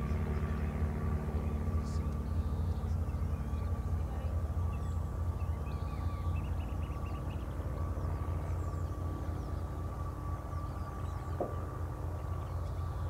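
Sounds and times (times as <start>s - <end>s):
birds chirping faintly: 0.0s - 13.0s
turboprop plane landing: 0.0s - 13.0s.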